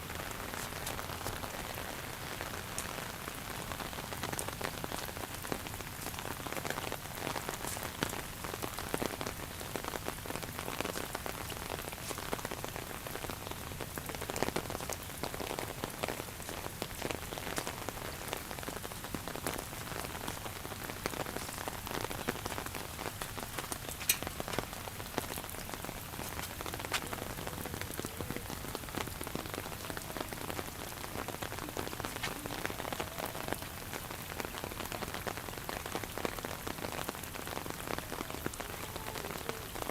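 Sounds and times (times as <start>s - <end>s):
raindrops tapping close by: 0.0s - 39.9s
steady rain: 0.0s - 39.9s.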